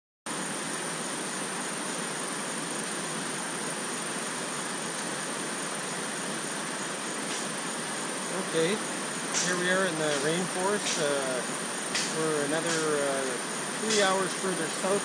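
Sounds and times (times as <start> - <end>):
steady rushing noise: 1.2 - 15.0.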